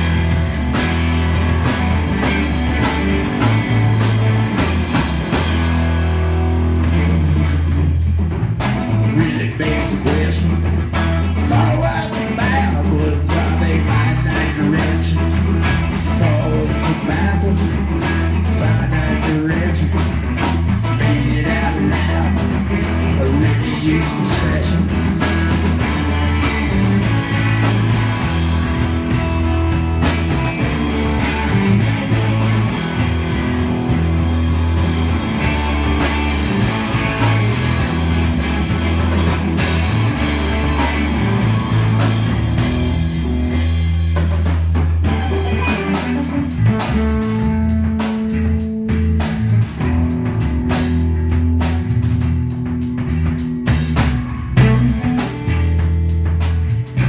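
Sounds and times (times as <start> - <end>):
deep bass line: 0.0 - 57.0
rock band playing live: 0.0 - 57.0.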